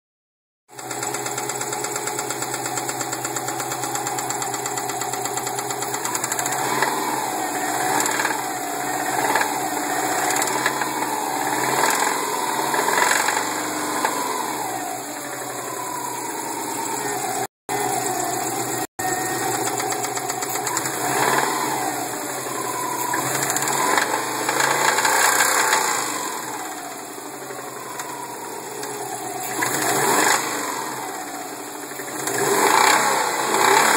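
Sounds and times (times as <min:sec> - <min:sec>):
car engine revving: 0:00.8 - 0:33.9.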